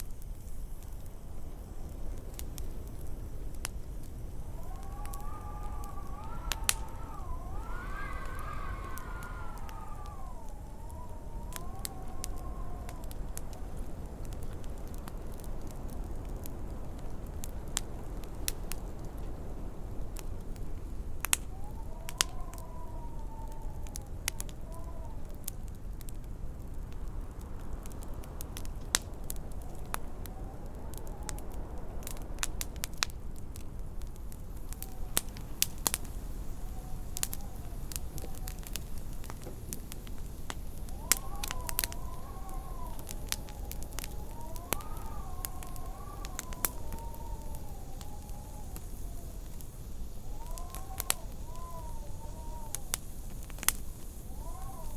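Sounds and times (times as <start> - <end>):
wind rumbling and howling: 0.0 - 54.9
wood fire crackling and popping: 0.0 - 54.9.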